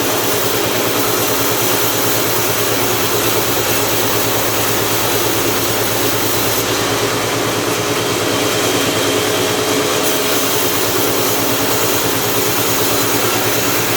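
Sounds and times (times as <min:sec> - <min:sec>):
log-sawing machine droning: 0:00.0 - 0:13.9.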